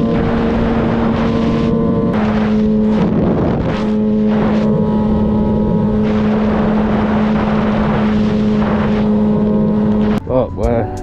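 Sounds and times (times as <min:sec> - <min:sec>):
wind rush: 0:00.0 - 0:10.2.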